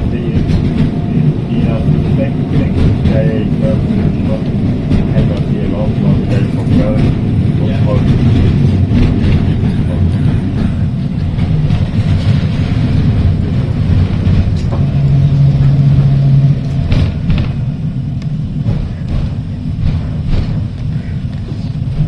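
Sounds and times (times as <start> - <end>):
tram rumbling: 0.0 - 22.0.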